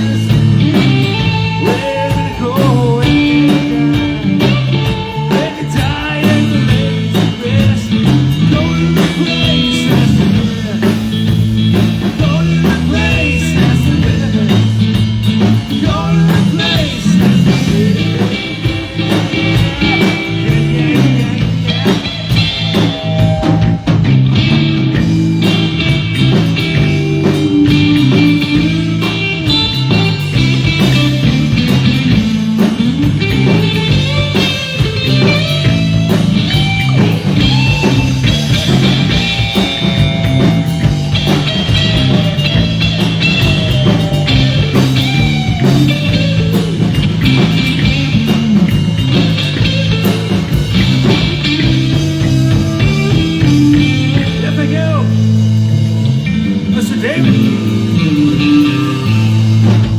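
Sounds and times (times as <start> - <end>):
electric guitar: 0.0 - 59.9
live blues-rock band: 0.0 - 59.9.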